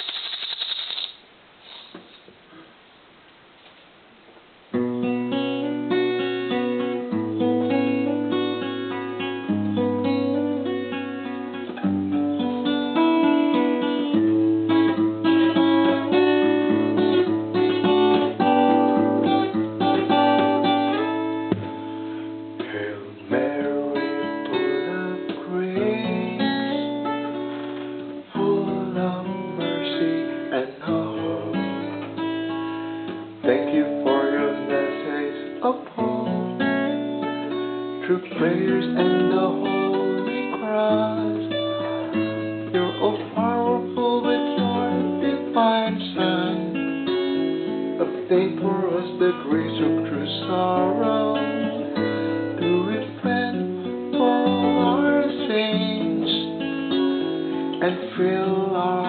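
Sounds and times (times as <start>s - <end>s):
faint hiss: 0.0s - 59.0s
picked acoustic guitar music: 4.3s - 59.0s.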